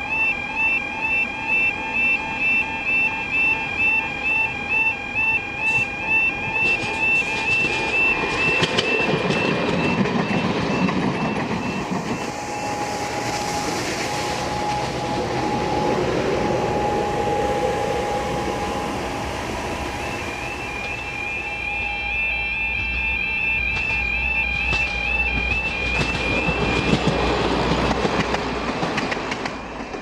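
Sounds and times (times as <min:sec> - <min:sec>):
steady tone: 0:00.0 - 0:27.1
train rumbling on track: 0:04.2 - 0:30.0.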